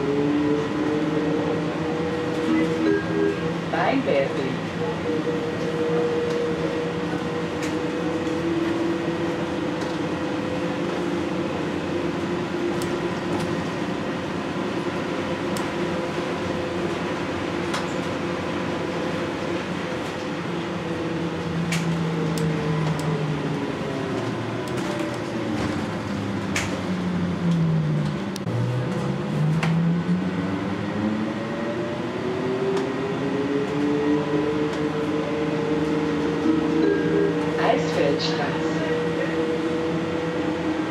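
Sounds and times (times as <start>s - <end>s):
trolleybus electric whine: 0.0s - 40.9s.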